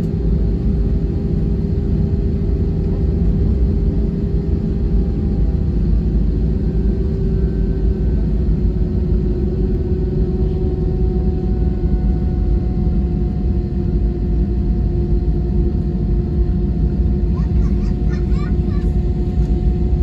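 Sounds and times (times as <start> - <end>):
jet engines rumbling in cabin: 0.0 - 20.0.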